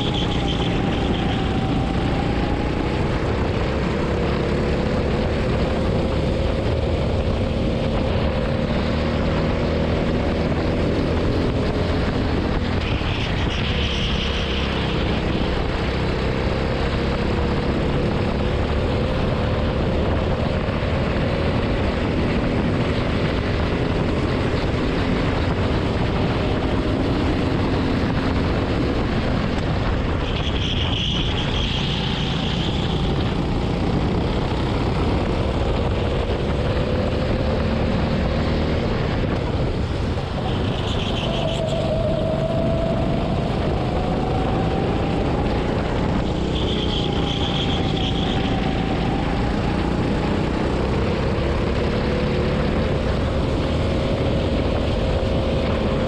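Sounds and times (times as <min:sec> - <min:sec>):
go-kart engine accelerating: 0:00.0 - 0:56.0
wind rushing over microphone: 0:00.0 - 0:56.0.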